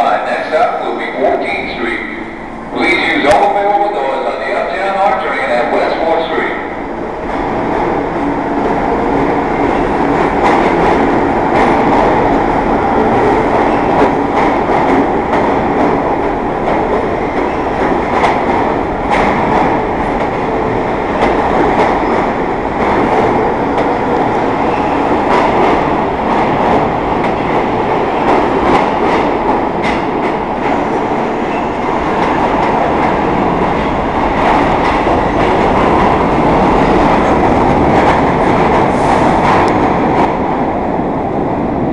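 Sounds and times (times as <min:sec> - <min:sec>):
subway train wheels rumbling on rail: 0:00.0 - 0:41.9.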